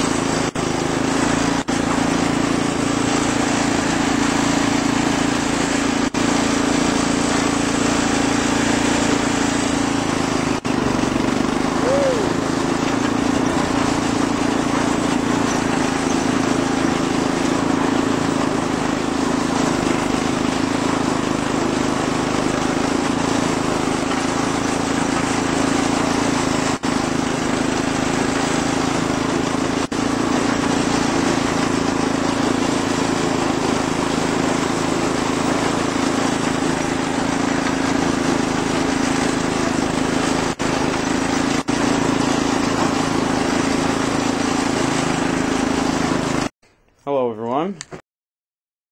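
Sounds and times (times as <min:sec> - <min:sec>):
lawn tractor engine running: 0:00.0 - 0:46.5.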